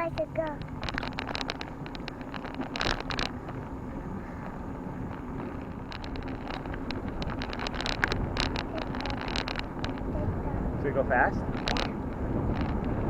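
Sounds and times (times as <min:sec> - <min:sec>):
bicycle tyre rumble: 0:00.0 - 0:13.0
bike clicks and rattles: 0:00.0 - 0:13.0
wind buffeting microphone: 0:00.0 - 0:13.0.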